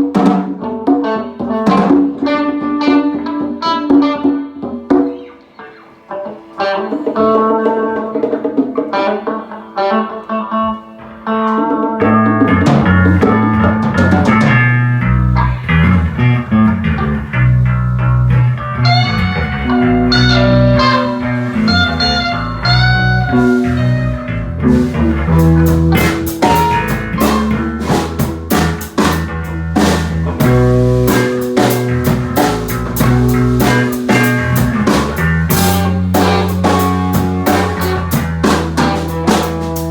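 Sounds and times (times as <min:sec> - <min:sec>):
drum kit groove: 0:00.0 - 0:05.5, 0:11.7 - 0:39.9
bass guitar: 0:00.0 - 0:39.9
electric guitar: 0:00.0 - 0:39.9.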